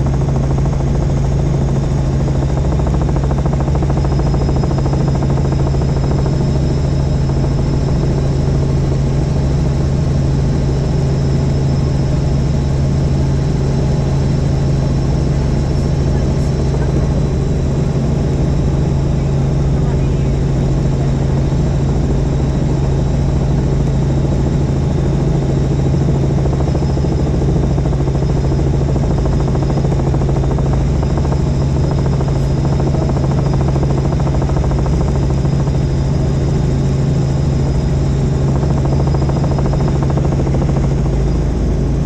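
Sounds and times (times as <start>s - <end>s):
helicopter drone: 0.0s - 42.0s.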